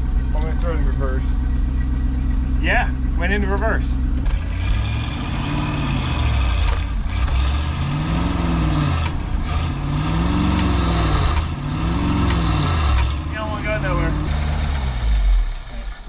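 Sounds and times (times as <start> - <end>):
truck engine revving under load: 0.0 - 16.0.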